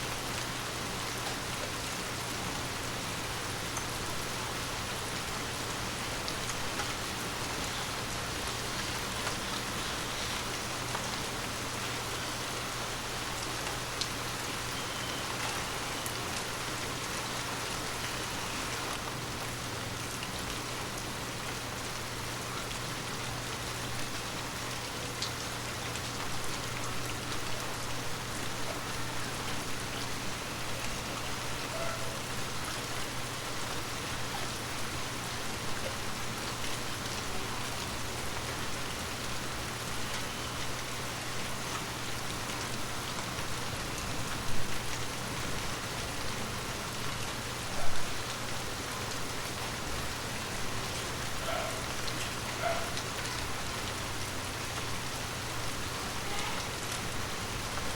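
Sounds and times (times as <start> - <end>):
soft rain on leaves: 0.0 - 57.9.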